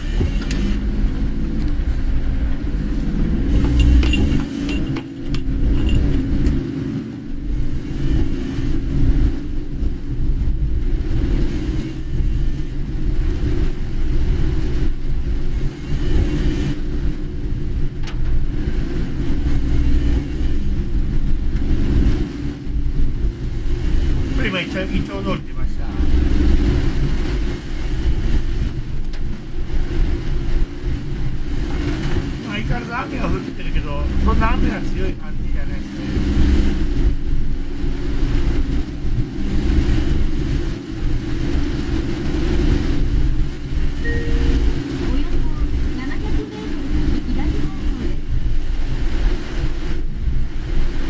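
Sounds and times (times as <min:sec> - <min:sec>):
car engine and tyres on wet road: 0:00.0 - 0:51.0.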